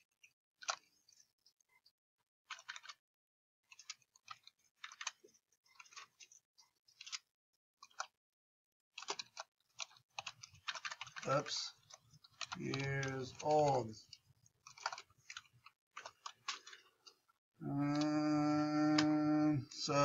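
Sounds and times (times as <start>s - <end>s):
keyboard typing: 0.6s - 1.9s, 2.5s - 3.0s, 3.7s - 8.2s, 9.0s - 19.5s.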